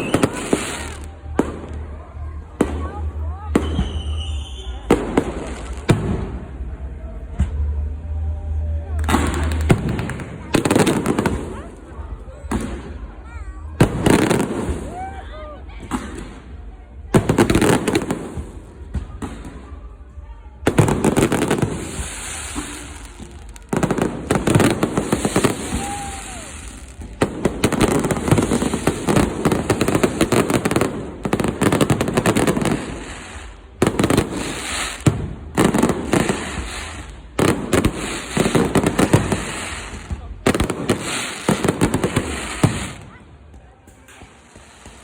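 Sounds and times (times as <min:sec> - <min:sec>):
fireworks bangs: 0:00.0 - 0:02.0, 0:02.6 - 0:07.8, 0:09.0 - 0:15.2, 0:15.8 - 0:45.0
fireworks crackle: 0:00.0 - 0:06.6, 0:08.9 - 0:19.9, 0:20.6 - 0:45.0.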